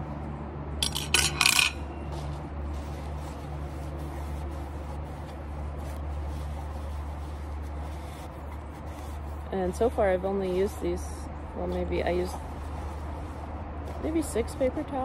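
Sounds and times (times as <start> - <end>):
steady low hum: 0.0 - 15.0
paper towel rubbing a bowl: 2.1 - 15.0.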